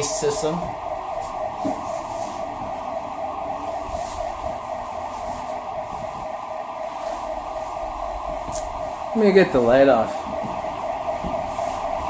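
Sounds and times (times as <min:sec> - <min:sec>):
steady alarm siren tone: 0:00.0 - 0:12.0.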